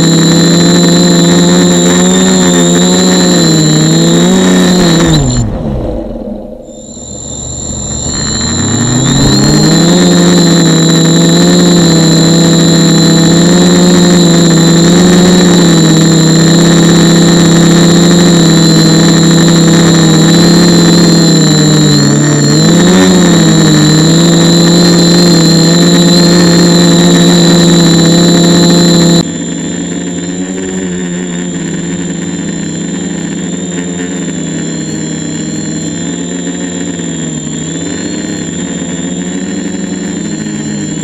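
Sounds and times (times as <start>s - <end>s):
drone propellers buzzing: 0.0s - 41.0s
thin high whine: 0.0s - 41.0s.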